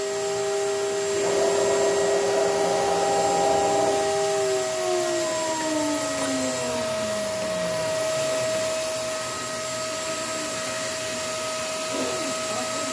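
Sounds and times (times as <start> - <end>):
router spindle whine winding down: 0.0 - 12.9
steady machine drone: 0.0 - 12.9.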